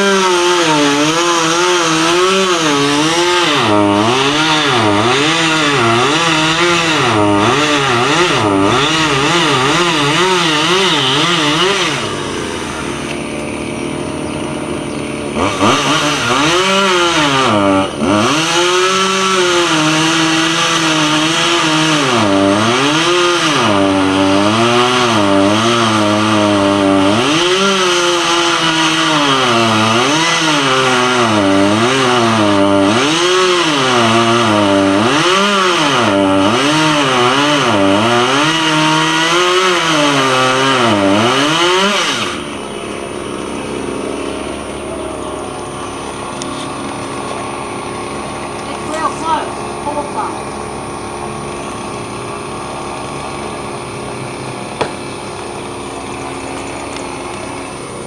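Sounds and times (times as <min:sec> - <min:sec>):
chainsaw cutting at full throttle: 0:00.0 - 0:58.0.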